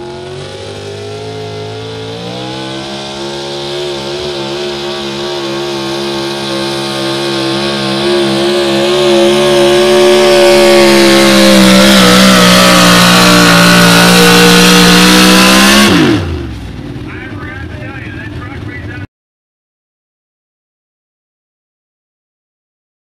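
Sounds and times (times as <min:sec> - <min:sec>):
truck engine at full throttle: 0:00.0 - 0:19.1.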